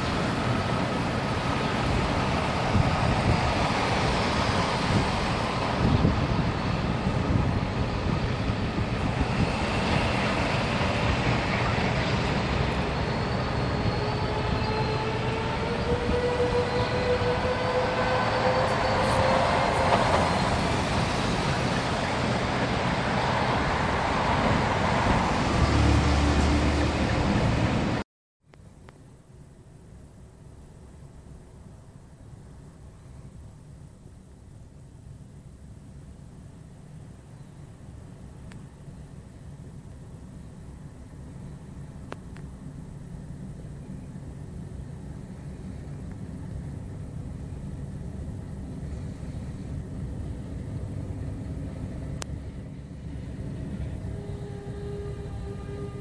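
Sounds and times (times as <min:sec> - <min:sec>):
diesel locomotive engine: 0:00.0 - 0:28.0, 0:28.6 - 0:56.0.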